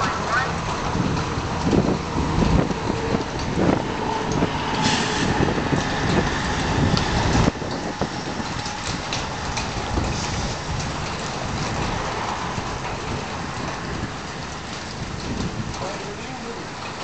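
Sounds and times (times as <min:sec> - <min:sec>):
light rain ticks: 0:00.0 - 0:17.0
road traffic: 0:00.0 - 0:17.0
storm wind: 0:00.0 - 0:17.0.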